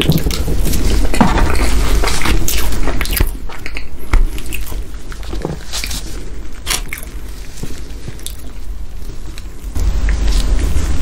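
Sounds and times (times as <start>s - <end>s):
man chewing cake: 0.0s - 10.9s.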